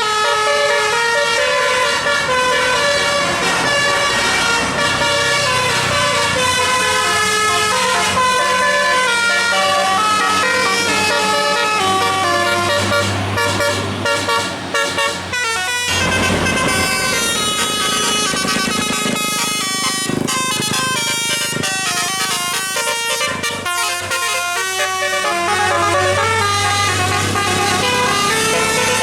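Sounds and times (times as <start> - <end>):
musical air horn playing a tune: 0.0 - 29.0.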